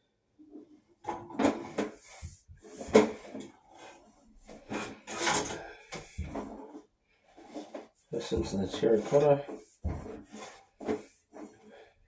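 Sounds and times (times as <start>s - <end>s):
camera scraping inside drain pipe: 1.1s - 11.9s.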